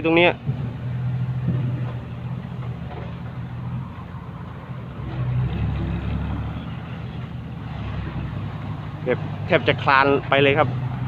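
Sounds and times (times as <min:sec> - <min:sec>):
diesel truck engine at low revs: 0:00.0 - 0:11.0.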